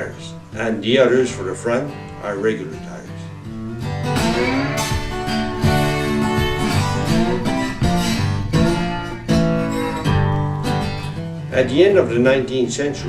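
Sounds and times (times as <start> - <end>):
strummed acoustic guitar music: 0.0 - 13.0.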